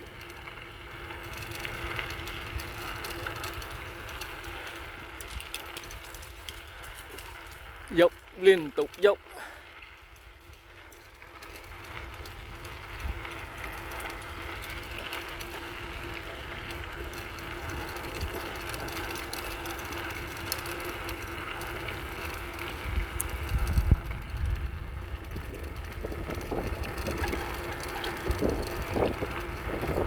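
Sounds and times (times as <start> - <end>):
bicycle tyre and drivetrain noise: 0.0 - 30.0.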